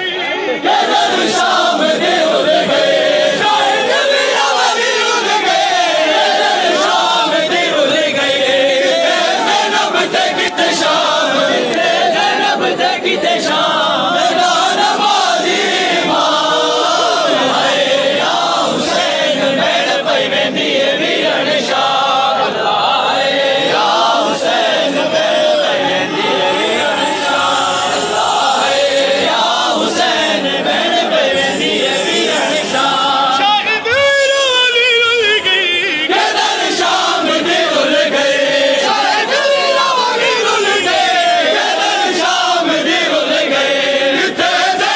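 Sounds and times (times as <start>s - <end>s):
crowd of men chanting: 0.0s - 44.9s.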